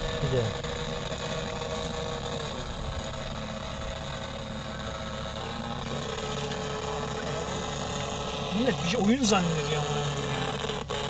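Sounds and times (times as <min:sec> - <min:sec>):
model airplane motor running: 0:00.0 - 0:11.0.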